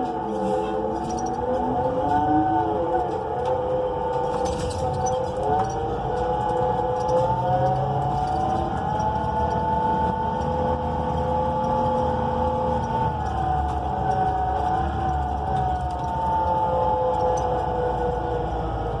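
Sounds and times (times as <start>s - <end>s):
bus drivetrain whine: 0.0s - 19.0s
engine and road rumble: 0.0s - 19.0s.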